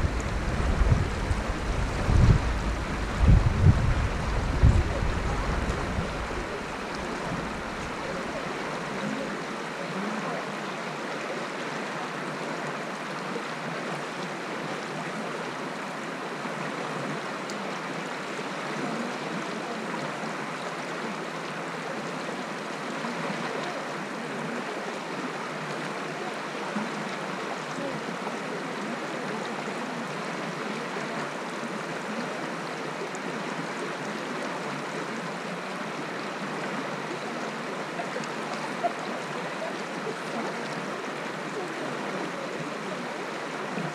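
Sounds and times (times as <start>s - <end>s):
stream flowing over stones: 0.0s - 43.9s.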